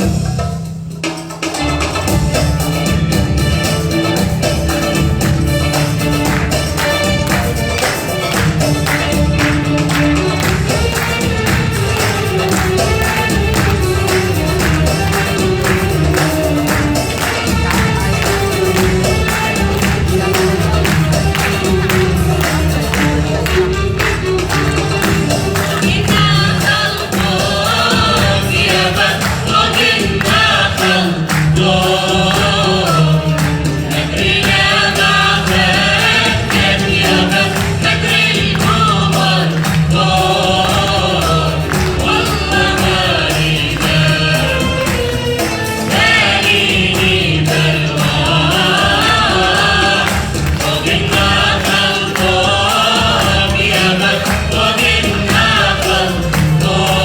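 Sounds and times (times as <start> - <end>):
percussion: 0.0 - 57.0
choir singing: 2.4 - 57.0.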